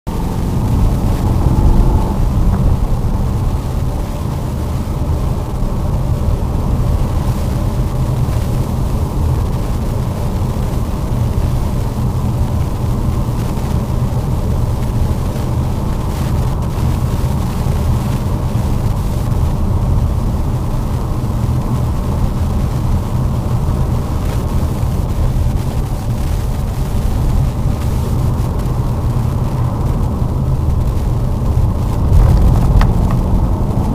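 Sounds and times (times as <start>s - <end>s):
car engine rumble: 0.0s - 33.9s.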